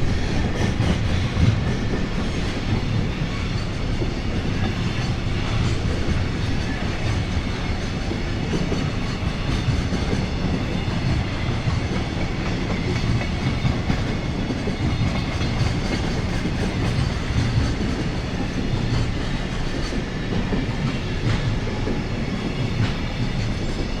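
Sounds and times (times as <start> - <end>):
train wheels rumbling on rail: 0.0 - 24.0
wheels clacking over rail joints: 0.0 - 24.0.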